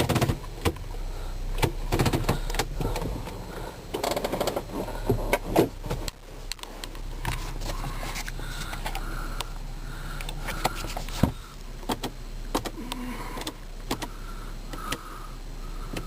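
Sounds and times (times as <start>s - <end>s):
car engine idling: 0.0s - 16.0s
steady whirr: 0.0s - 16.0s.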